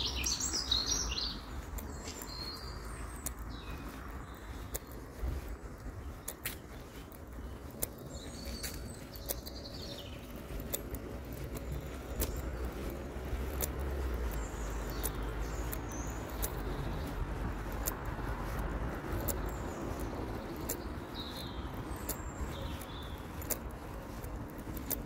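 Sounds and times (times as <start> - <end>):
footsteps on paved path: 0.0 - 25.0
songbirds chirping: 0.0 - 25.0.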